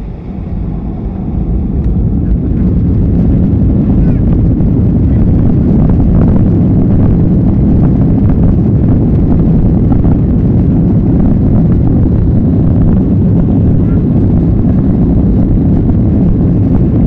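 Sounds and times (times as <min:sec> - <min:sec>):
jet engines at takeoff: 0:00.0 - 0:17.0
runway rumble: 0:00.0 - 0:17.0.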